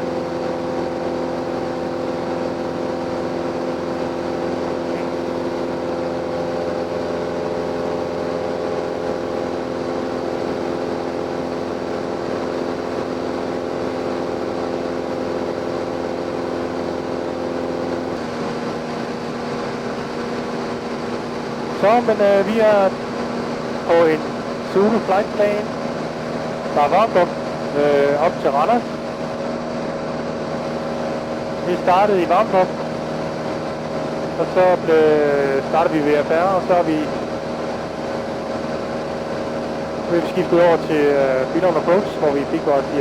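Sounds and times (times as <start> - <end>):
light aircraft engine in cabin: 0.0 - 43.0.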